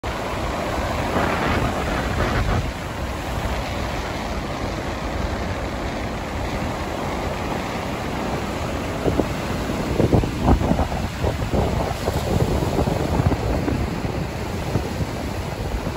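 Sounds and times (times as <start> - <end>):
wind on microphone: 0.0 - 5.7, 7.8 - 15.9
surf breaking on beach: 0.0 - 15.9.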